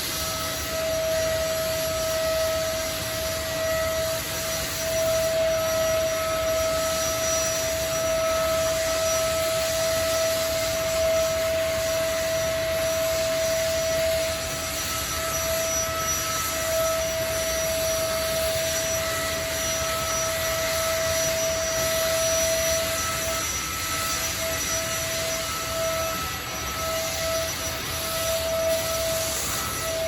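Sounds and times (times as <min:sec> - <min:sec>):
power sander whining: 0:00.0 - 0:30.0.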